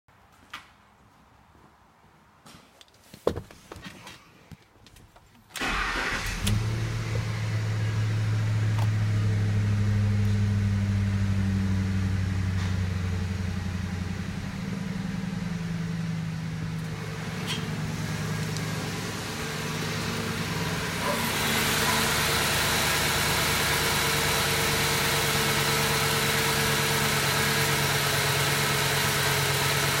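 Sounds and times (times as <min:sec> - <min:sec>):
truck engine cranking and idling: 0:05.5 - 0:30.0.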